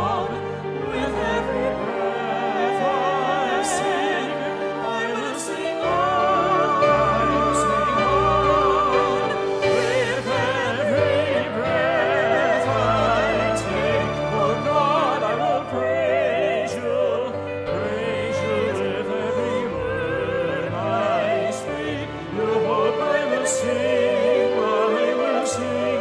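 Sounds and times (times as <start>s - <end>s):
classical-style music with vibrato melody: 0.0s - 26.0s.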